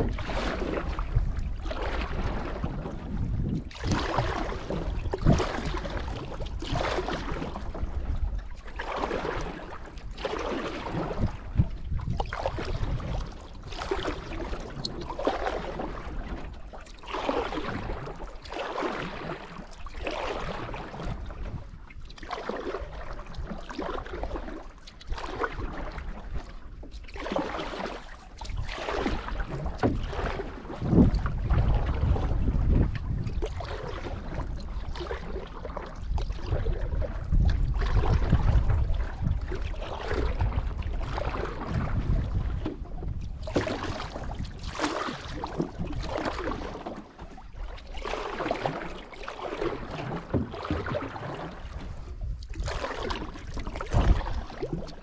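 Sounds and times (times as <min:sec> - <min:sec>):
paddle swishing through water: 0:00.0 - 0:55.0
wind rumble on microphone: 0:00.0 - 0:55.0.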